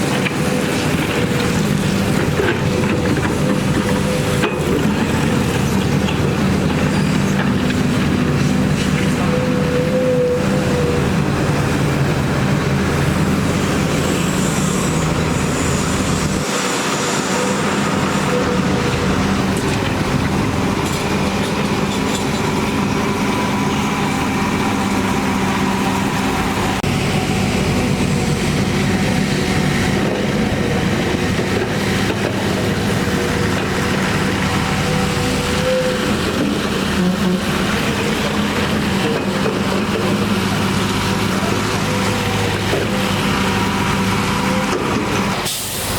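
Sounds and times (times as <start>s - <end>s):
heavy machinery diesel engines: 0.0s - 45.9s.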